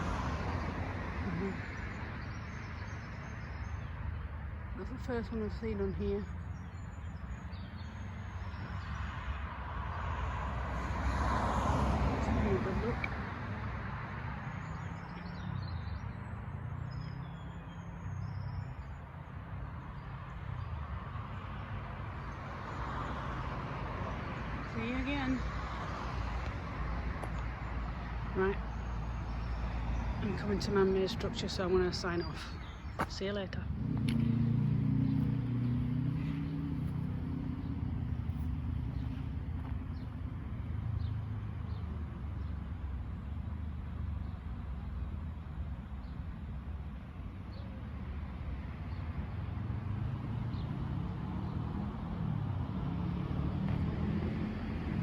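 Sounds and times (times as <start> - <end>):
vehicle engine hum passing: 0.0 - 55.0.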